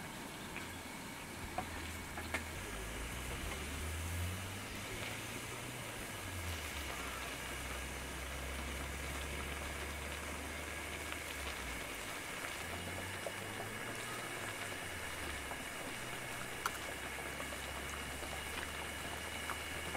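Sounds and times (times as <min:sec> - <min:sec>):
steady hiss: 0:00.0 - 0:19.9.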